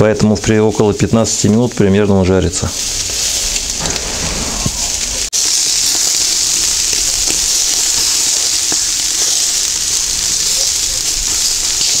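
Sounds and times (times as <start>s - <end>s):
meat sizzling over charcoal: 0.0s - 12.0s.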